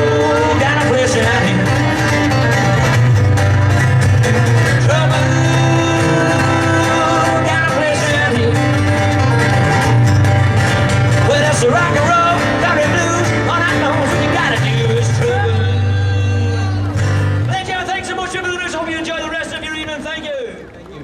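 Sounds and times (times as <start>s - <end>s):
held bass notes: 0.0s - 17.8s
country guitar music: 0.0s - 20.2s.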